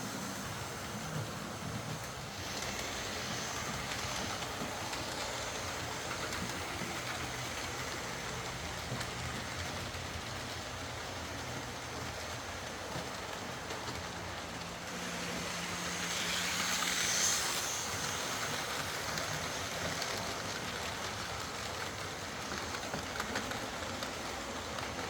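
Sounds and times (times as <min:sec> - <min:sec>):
model train motor hum: 0:00.0 - 0:25.0
wheels rushing on rail: 0:00.0 - 0:25.0.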